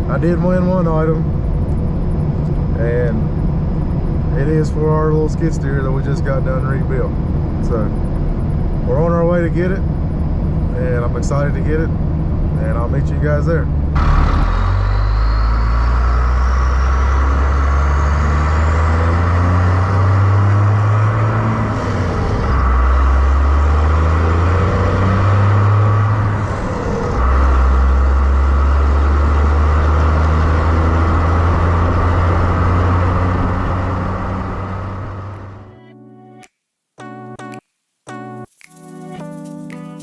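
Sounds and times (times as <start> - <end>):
vehicle engine and road noise: 0.0 - 35.8.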